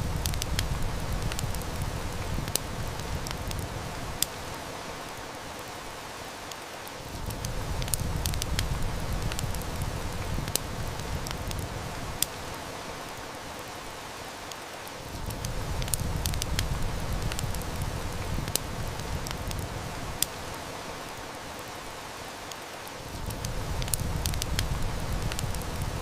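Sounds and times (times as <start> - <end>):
heavy rain hiss: 0.0 - 26.0
wood fire crackling: 0.0 - 26.0.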